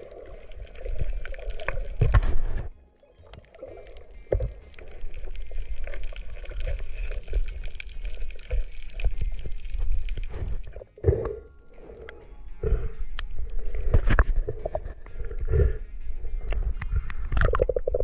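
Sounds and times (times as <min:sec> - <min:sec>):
sharp underwater clicks and crackles: 0:00.0 - 0:18.0
underwater rumble of moving water: 0:00.0 - 0:18.0.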